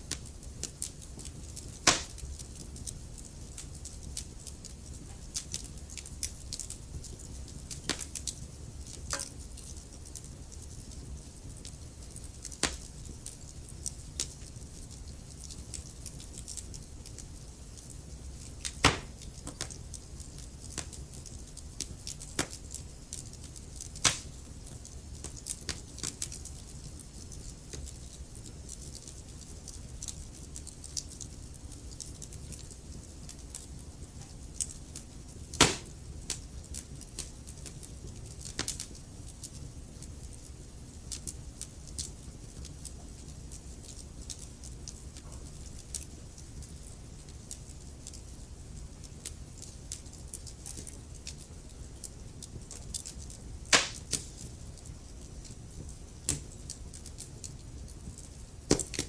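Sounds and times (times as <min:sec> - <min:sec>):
burning logs crackling and popping: 0:00.0 - 0:59.0
fire rumbling: 0:00.0 - 0:59.0.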